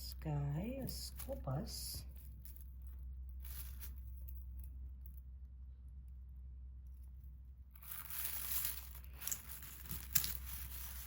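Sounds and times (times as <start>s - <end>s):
jewelry rustling and crinkling: 0.0s - 5.4s, 6.8s - 11.0s
steady low hum: 0.0s - 11.0s.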